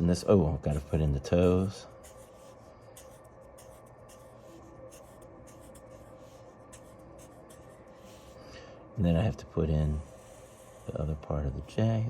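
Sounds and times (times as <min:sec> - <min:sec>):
low steady hum: 0:00.0 - 0:12.0
drawing tool scratching paper: 0:00.1 - 0:08.4, 0:09.8 - 0:11.9.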